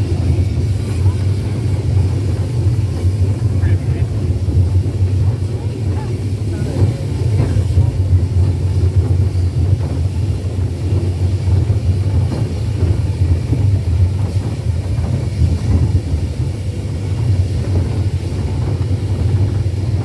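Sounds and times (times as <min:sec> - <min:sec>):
steam locomotive rumbling: 0:00.0 - 0:20.0.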